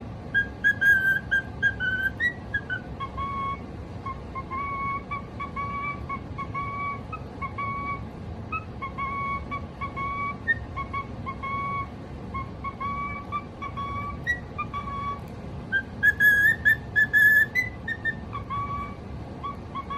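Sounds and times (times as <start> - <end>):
cockatiel whistling: 0.3 - 19.9.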